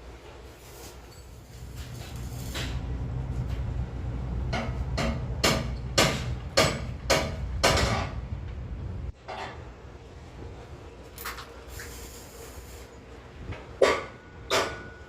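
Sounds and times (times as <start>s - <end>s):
low machine hum: 1.2s - 15.0s.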